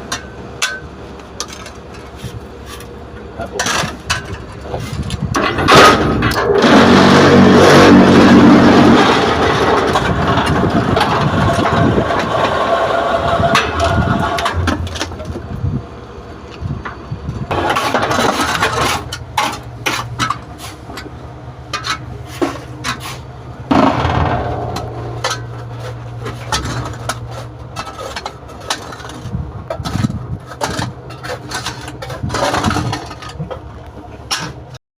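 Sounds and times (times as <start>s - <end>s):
paver engine hum: 0.0s - 34.8s.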